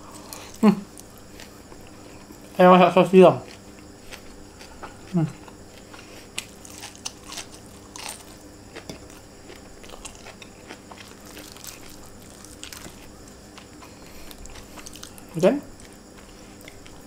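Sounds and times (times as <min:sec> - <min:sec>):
chewing food with crunches: 0:03.3 - 0:17.0.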